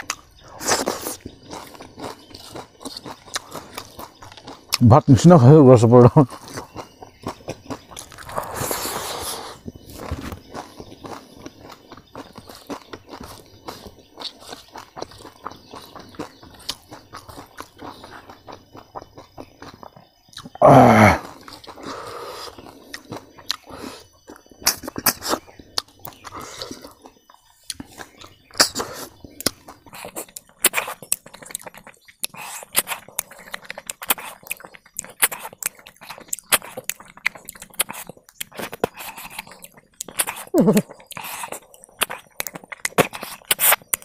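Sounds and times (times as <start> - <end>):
wet chewing and lip smacks: 0.0 - 4.8, 6.2 - 20.6, 21.2 - 44.0
crispy food crunches: 0.0 - 44.0.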